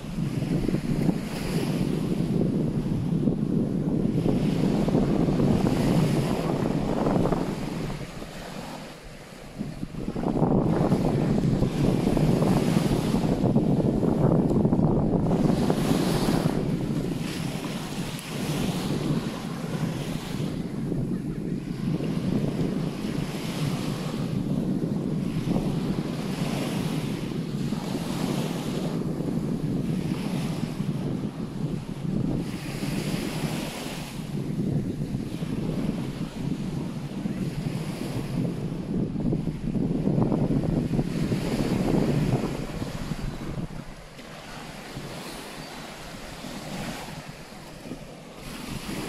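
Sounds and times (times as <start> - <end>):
waves washing onto sand: 0.0 - 49.0
wind buffeting microphone: 0.0 - 49.0.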